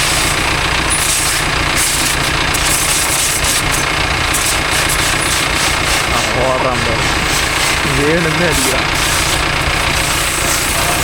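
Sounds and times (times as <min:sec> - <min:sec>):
engine running: 0:00.0 - 0:11.0
high-pressure water jet hissing: 0:00.0 - 0:11.0.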